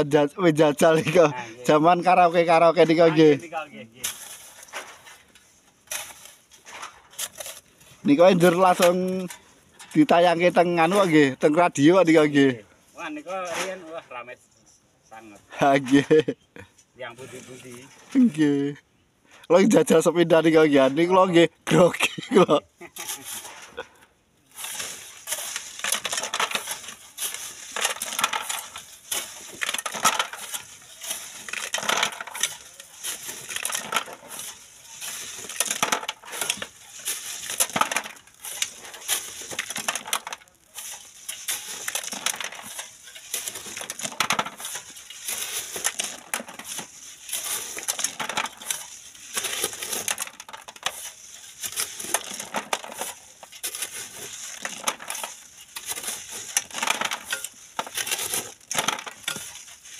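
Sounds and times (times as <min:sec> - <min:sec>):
gravel rattling in sifting screen: 0:00.0 - 0:14.0, 0:17.0 - 0:18.6, 0:19.6 - 0:59.9
hoe scraping gravel: 0:00.0 - 0:14.4, 0:15.2 - 0:16.4, 0:17.0 - 0:18.7, 0:19.3 - 0:59.9.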